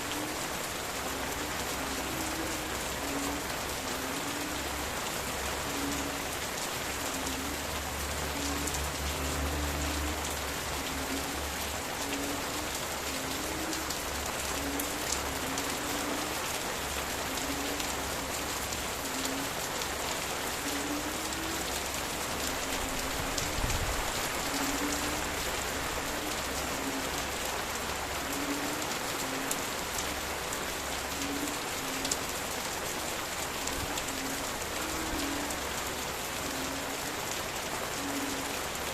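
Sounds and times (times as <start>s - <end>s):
frogs calling: 0.0s - 32.2s
rain pattering on leaves: 0.0s - 38.9s.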